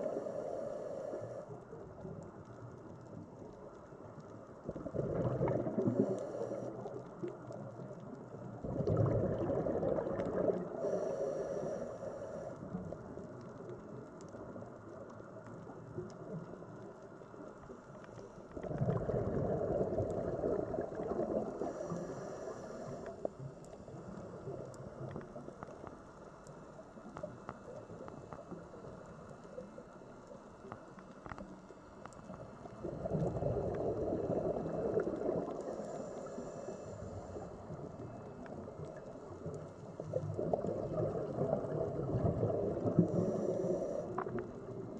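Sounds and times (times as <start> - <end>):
quiet watery hiss: 0.0 - 44.9
underwater exhaled bubbles: 0.0 - 44.9.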